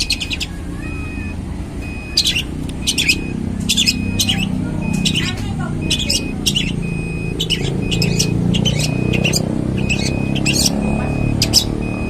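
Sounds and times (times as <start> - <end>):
bird singing high notes: 0.0 - 1.3, 1.9 - 11.9
steady low rumble: 0.0 - 12.0.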